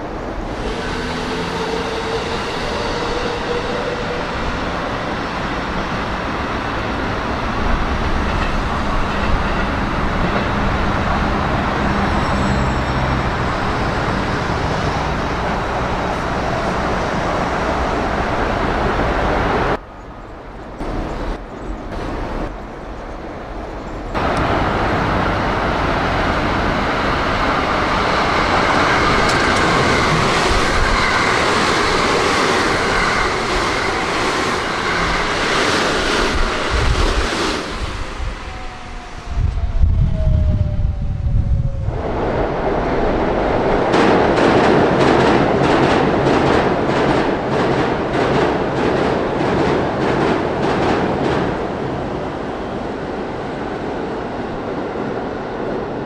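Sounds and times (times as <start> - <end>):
trains rumbling on rails: 0.0 - 56.0.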